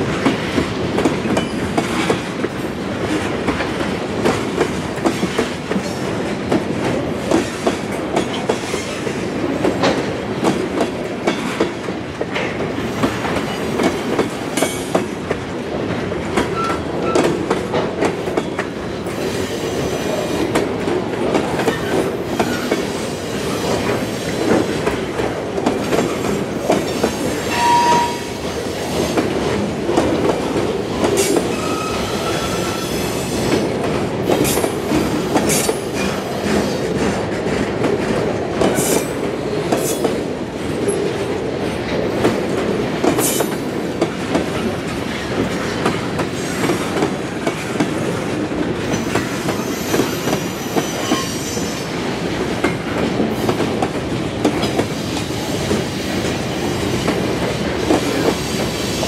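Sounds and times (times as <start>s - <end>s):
rumble of wheels on rail: 0.0s - 59.0s.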